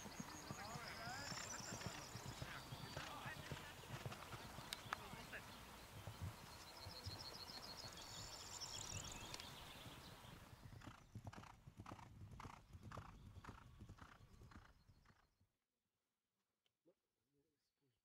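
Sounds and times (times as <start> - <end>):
hoofbeats on grass: 0.0 - 15.2.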